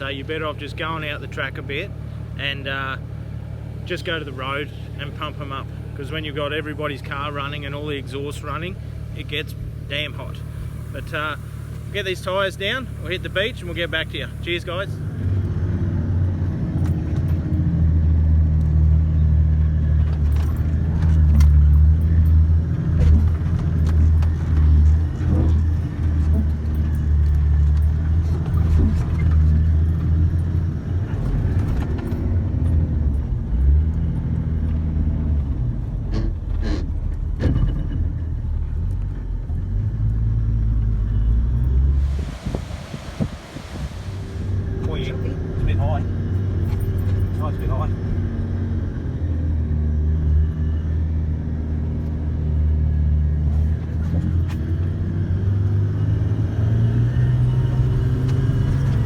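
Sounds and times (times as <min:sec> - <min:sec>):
vehicle engine and tyre rumble: 0:00.0 - 0:59.0.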